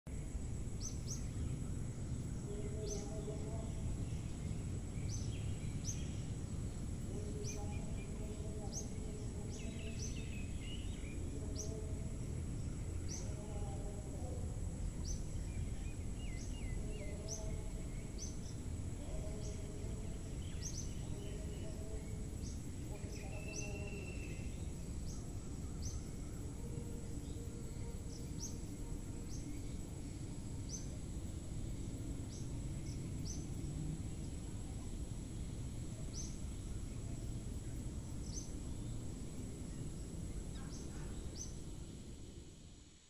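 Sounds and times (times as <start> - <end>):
insect drone: 0.1 - 43.0
low background rumble: 0.1 - 43.0.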